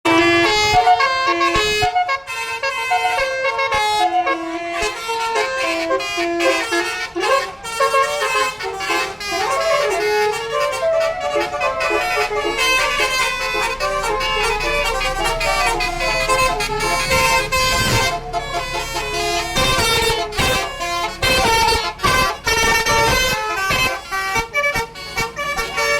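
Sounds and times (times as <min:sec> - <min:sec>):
multi-tone musical air horn: 0:00.0 - 0:25.9.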